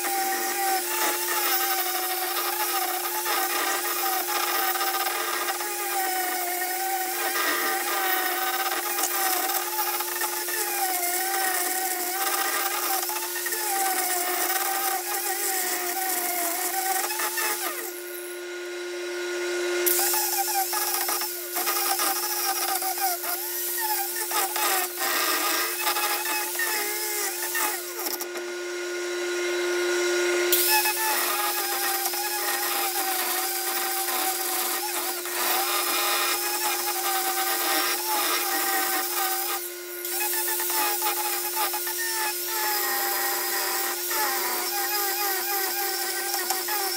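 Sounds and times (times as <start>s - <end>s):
grinding disc rasping on wood: 0.0s - 18.1s, 19.9s - 28.4s, 30.5s - 46.9s
angle grinder motor whine: 0.0s - 46.9s.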